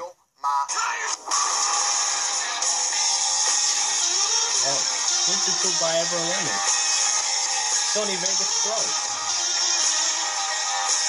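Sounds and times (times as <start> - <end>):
music playing: 0.7 - 11.0.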